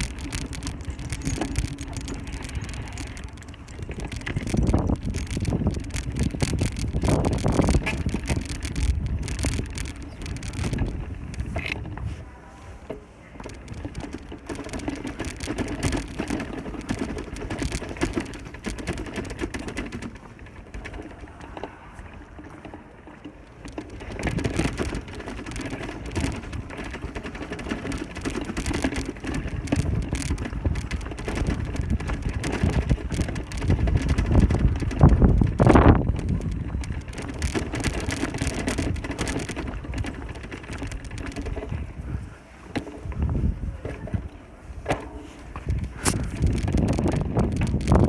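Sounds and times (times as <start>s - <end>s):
bicycle rattling: 0.0s - 12.2s, 12.8s - 48.0s
tyres rumbling: 0.0s - 44.2s, 45.0s - 48.0s
wind: 0.0s - 48.0s.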